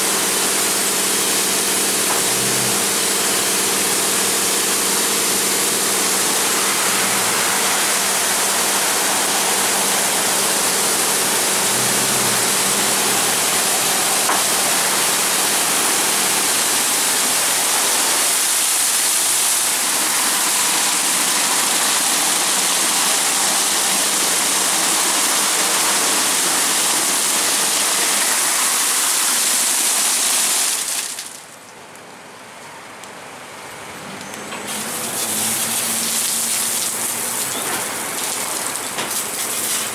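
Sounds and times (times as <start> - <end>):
high-pressure water spraying: 0.0 - 31.4, 34.6 - 39.9
steady machine hum: 0.0 - 39.9.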